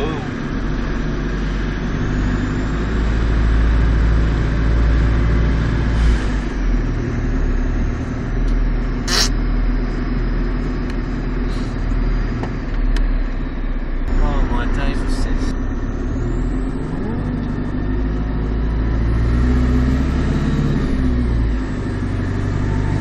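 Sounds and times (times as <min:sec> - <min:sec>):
lorry diesel engine drone: 0:00.0 - 0:23.0.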